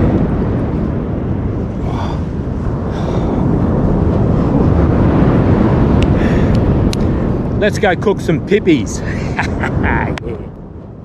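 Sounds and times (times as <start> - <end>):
beach surf: 0.0 - 11.0
wind buffeting microphone: 0.0 - 11.0.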